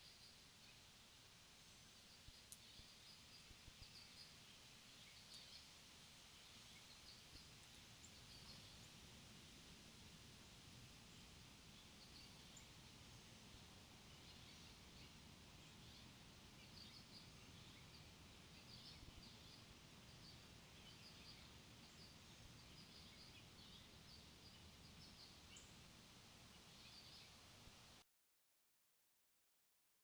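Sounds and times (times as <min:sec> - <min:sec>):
small birds chirping: 0:00.0 - 0:00.9, 0:01.7 - 0:10.2, 0:11.0 - 0:27.9
low background hiss: 0:00.0 - 0:28.0.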